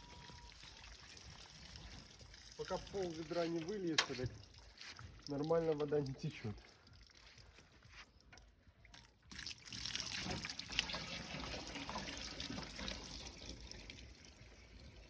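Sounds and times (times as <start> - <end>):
water pouring: 0.0 - 7.8, 9.0 - 15.0.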